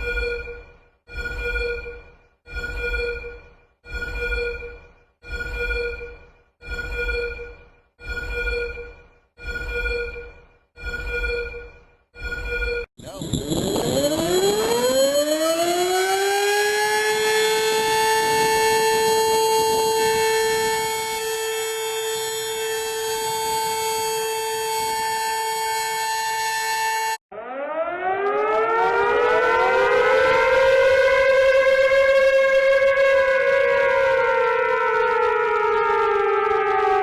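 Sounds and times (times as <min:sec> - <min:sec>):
warning siren wailing: 0:00.0 - 0:10.1, 0:13.0 - 0:37.0.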